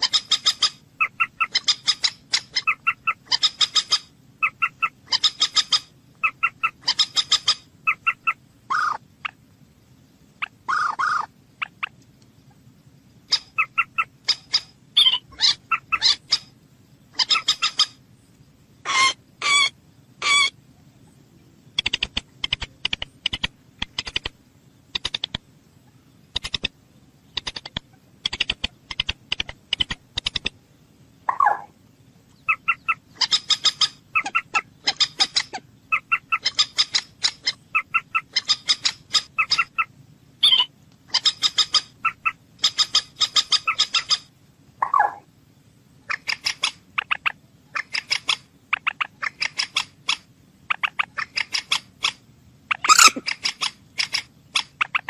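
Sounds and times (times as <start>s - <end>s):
bird calling: 0.0s - 9.5s, 10.4s - 18.0s, 18.8s - 30.5s, 31.2s - 45.3s, 46.0s - 55.0s
steady low hum: 0.0s - 55.0s.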